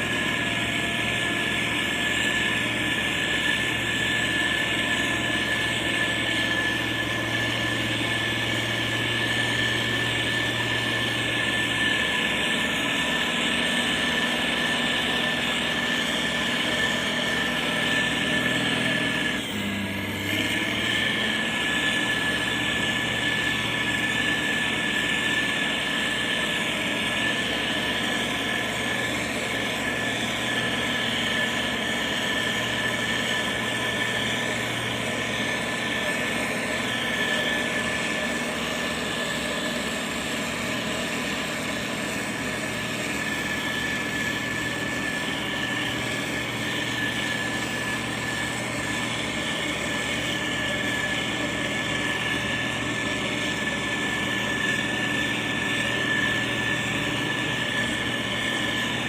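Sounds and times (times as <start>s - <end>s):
constant high whine: 0.0s - 59.0s
diesel engine drone: 0.0s - 59.0s.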